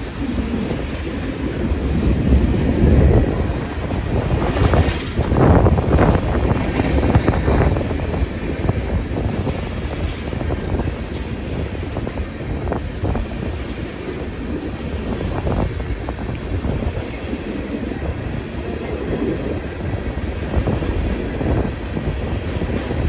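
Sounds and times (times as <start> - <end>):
train clanks: 0.0 - 23.0
train wheels rolling on track: 0.0 - 23.0
wheel squeals: 0.0 - 23.0.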